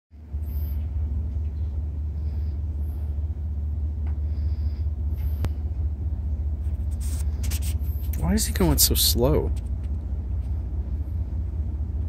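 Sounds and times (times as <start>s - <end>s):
diesel locomotive rumble: 0.1s - 12.0s.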